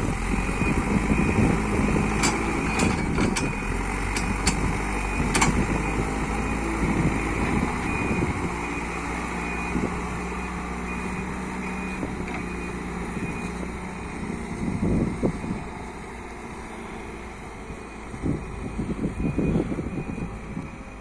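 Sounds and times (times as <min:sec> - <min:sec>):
diesel engine running: 0:00.0 - 0:21.0
reversing alarm beeping: 0:00.3 - 0:14.3, 0:17.7 - 0:21.0.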